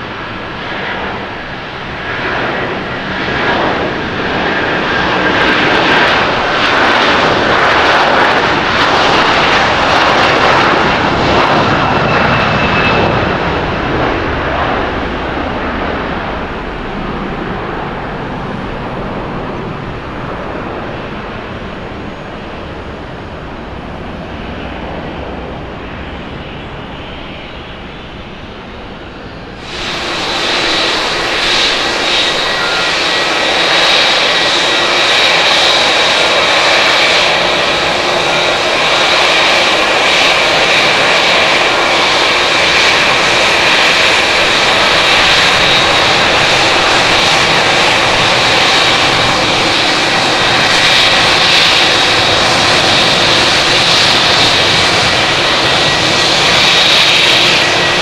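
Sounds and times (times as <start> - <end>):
jet engines at takeoff power: 0.0 - 58.0
jet engines of climbing plane: 0.0 - 58.0.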